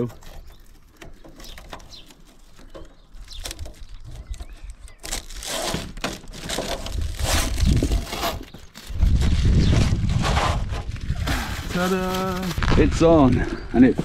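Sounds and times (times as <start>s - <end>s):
plastic film peeling and crinkling: 0.0s - 10.1s, 10.8s - 13.3s.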